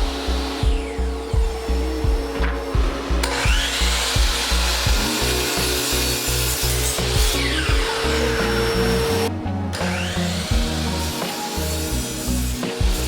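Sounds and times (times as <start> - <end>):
background music with steady beat: 0.0 - 13.0
power saw cutting plywood: 0.0 - 13.0.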